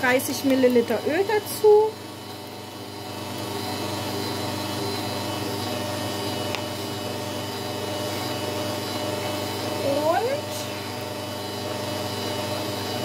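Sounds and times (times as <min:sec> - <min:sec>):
stand mixer beating batter: 0:00.0 - 0:13.0.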